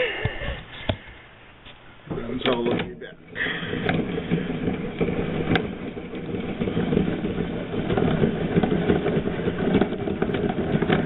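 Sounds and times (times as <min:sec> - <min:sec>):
chain mortiser running: 0:02.1 - 0:11.0
rattle of clicks: 0:02.1 - 0:11.0.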